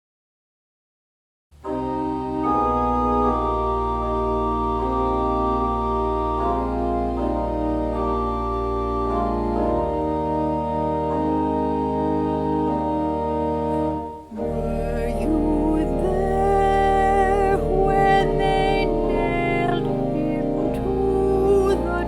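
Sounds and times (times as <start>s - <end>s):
organ playing slow chords: 1.6s - 22.0s.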